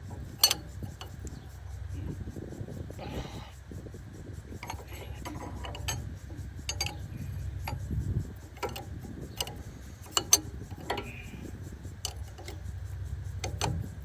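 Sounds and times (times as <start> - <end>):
metallic clicks of hand wrenches: 0.0 - 2.2, 4.5 - 14.0
steady low rumble: 0.0 - 14.0.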